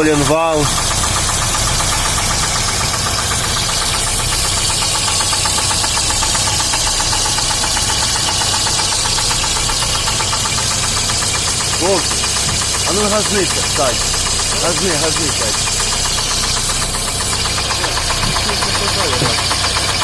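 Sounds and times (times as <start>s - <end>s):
car engine running: 0.0s - 20.0s
engine knock tapping: 0.0s - 20.0s.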